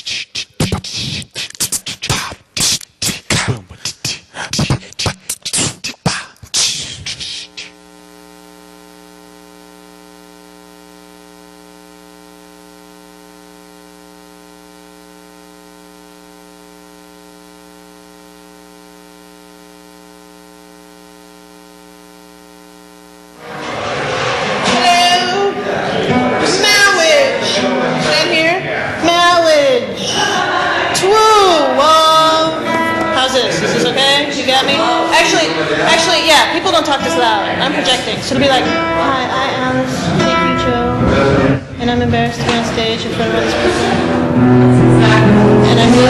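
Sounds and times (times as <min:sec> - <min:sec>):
buzzy electrical hum: 0:00.0 - 0:46.0.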